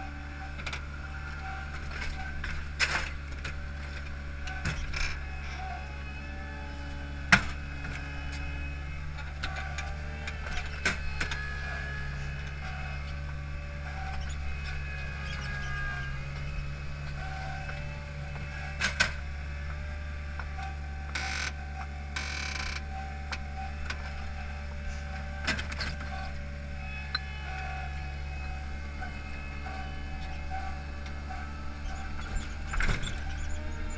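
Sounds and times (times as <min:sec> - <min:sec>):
paving machine engine running: 0:00.0 - 0:33.9.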